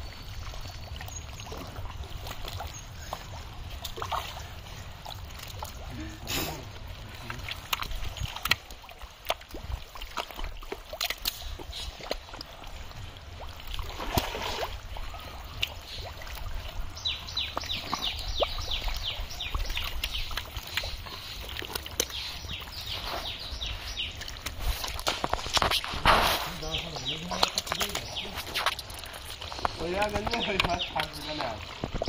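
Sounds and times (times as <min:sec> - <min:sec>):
water sloshing: 0:00.0 - 0:32.0
water splashes: 0:00.0 - 0:32.0
wet mud squelching: 0:00.0 - 0:32.0.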